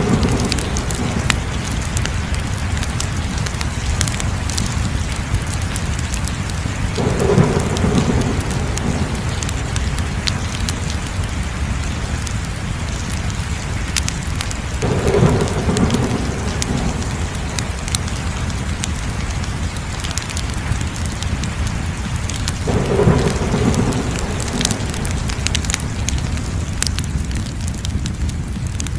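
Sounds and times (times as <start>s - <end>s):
crackling wood fire: 0.0s - 28.9s.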